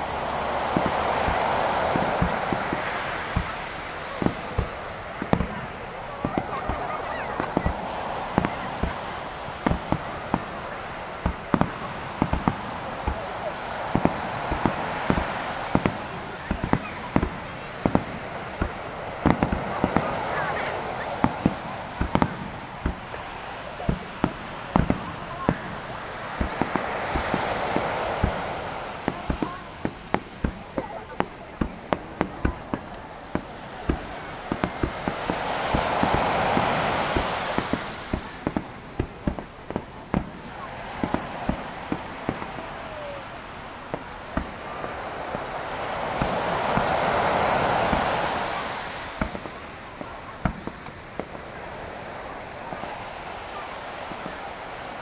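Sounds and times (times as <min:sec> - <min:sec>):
fireworks bursting: 0:00.0 - 0:55.0
rushing hiss: 0:00.0 - 0:55.0.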